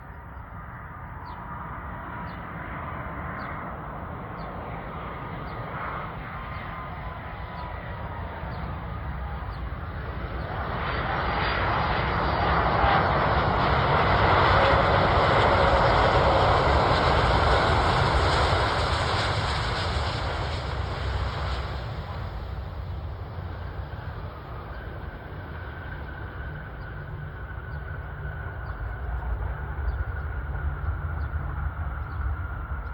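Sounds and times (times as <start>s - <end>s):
jet airliner engine noise: 0.0s - 32.9s.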